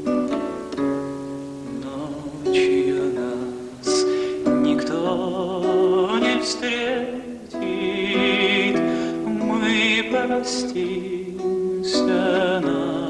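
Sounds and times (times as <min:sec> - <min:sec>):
man singing with vibrato: 0:00.0 - 0:13.0
plucked guitar: 0:00.0 - 0:13.0.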